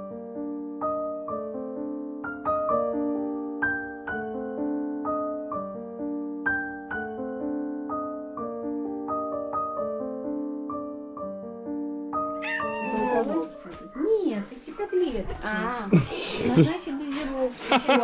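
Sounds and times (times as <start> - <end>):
electric piano melody: 0.0 - 15.0.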